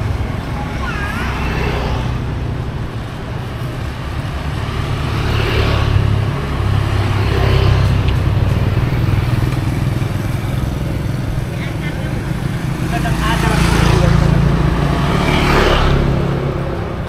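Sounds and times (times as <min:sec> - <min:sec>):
road noise: 0:00.0 - 0:17.0
vehicle engines running: 0:00.0 - 0:17.0.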